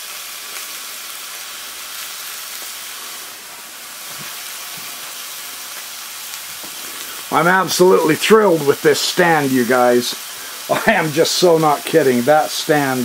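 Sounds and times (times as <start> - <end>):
steaks sizzling in a skillet: 0.0 - 13.0.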